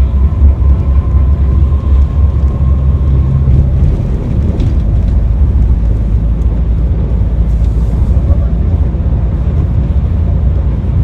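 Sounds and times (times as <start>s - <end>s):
bus engine rumbling: 0.0s - 11.0s
road noise: 0.0s - 11.0s.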